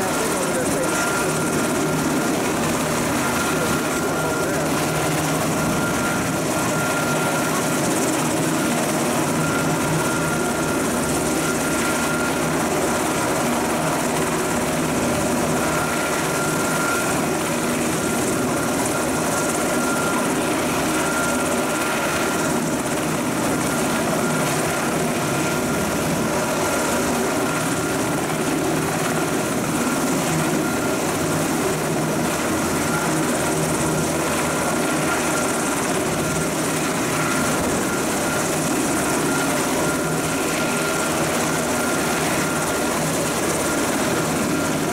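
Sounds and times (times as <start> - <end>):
helicopter turbine and rotor noise: 0.0 - 44.9
high turbine whine: 0.0 - 44.9.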